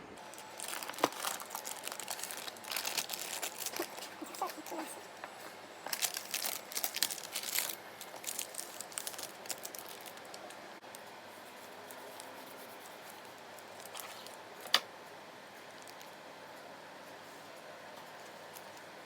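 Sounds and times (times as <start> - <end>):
crinkling and rustling: 0.2 - 14.8, 15.6 - 16.2, 17.1 - 19.0.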